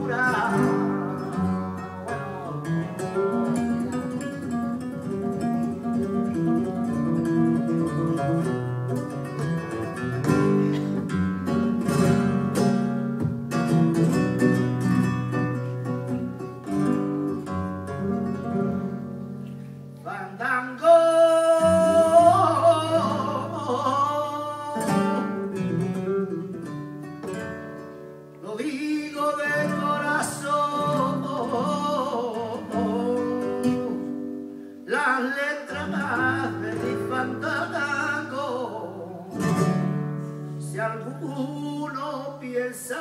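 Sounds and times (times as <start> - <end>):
flamenco guitar playing: 0.0 - 43.0.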